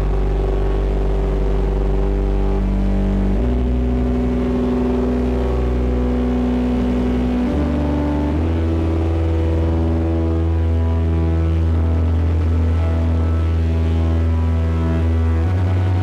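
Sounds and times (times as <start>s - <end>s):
distorted synthesizer drone: 0.0s - 16.0s.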